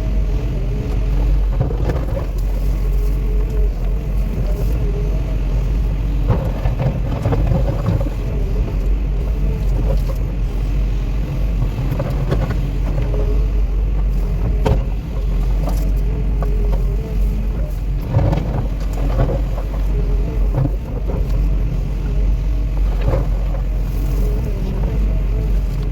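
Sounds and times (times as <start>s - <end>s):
excavator engine rumble: 0.0s - 25.9s
wavering mid-pitched whine: 0.0s - 25.9s.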